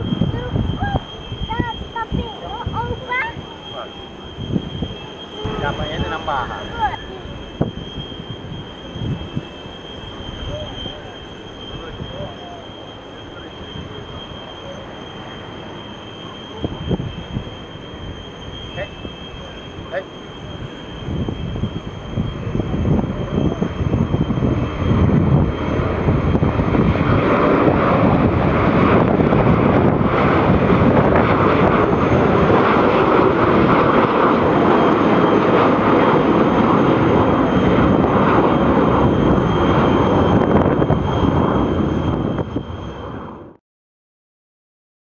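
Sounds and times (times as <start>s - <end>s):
loud jet engine noise: 0.0s - 43.6s
thin steady whine: 0.0s - 43.6s.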